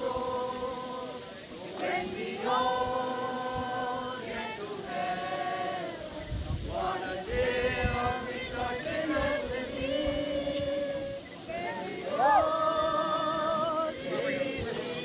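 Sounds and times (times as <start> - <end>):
crowd singing a hymn: 0.0 - 15.0.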